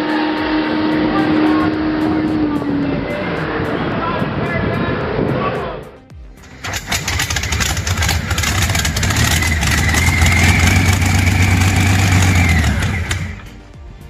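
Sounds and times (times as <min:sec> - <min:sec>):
supercharger whine: 0:00.0 - 0:13.8
engine deep rumble: 0:00.0 - 0:14.0.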